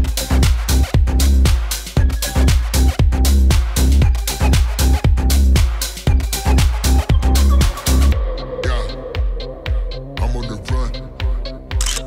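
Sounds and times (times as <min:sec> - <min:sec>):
electronic dance music: 0:00.0 - 0:11.2.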